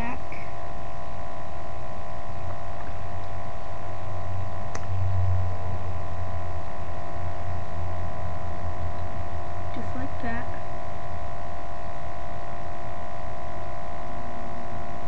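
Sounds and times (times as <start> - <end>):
electrical hum and hiss: 0.0 - 15.0.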